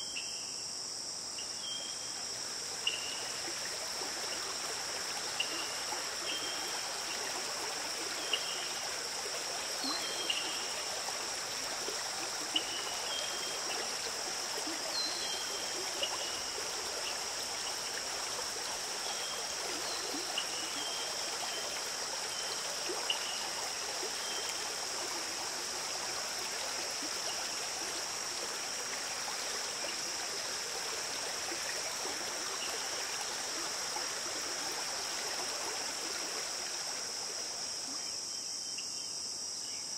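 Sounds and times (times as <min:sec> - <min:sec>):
stream water running: 0:00.0 - 0:39.8.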